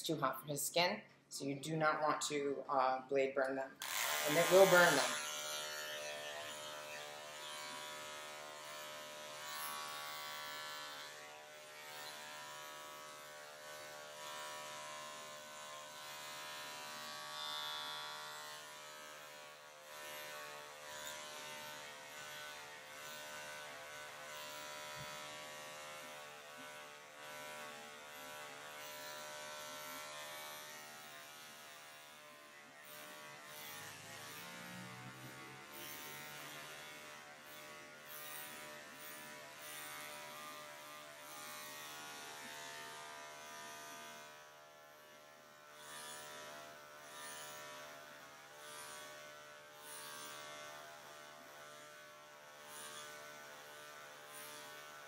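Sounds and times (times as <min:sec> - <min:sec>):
electric clippers running: 0:03.8 - 0:55.0.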